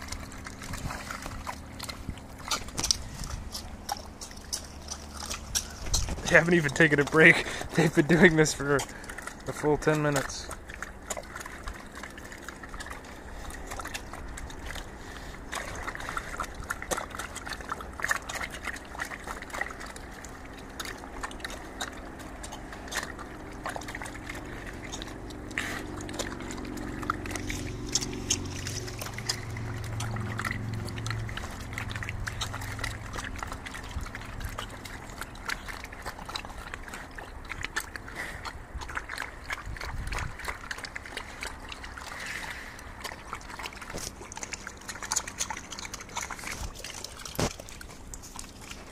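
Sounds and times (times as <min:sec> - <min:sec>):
pigs slurping liquid feed: 0:00.0 - 0:48.9.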